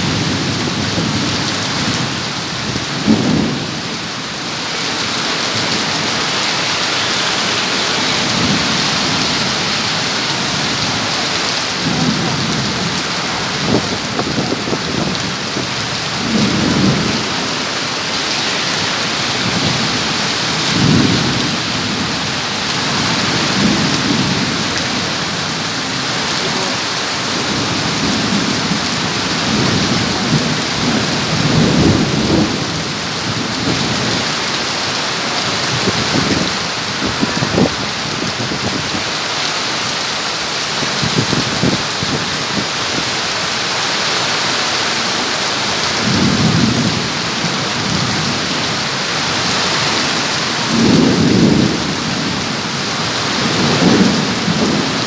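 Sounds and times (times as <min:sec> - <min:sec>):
low thunder rumbles: 0:00.0 - 0:04.3, 0:07.4 - 0:39.2, 0:45.6 - 0:55.0
heavy rain pouring: 0:00.0 - 0:55.0.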